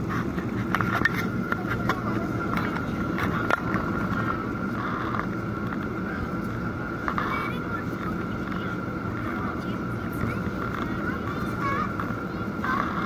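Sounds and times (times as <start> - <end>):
engine and airflow rumble: 0.0 - 13.0
steady whine: 0.0 - 13.0.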